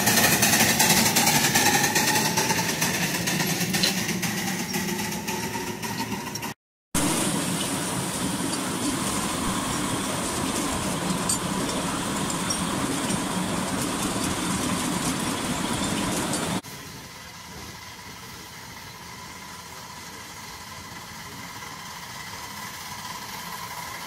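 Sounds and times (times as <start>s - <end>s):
steam locomotive running: 0.0s - 24.0s
wheels on rails: 0.0s - 24.0s.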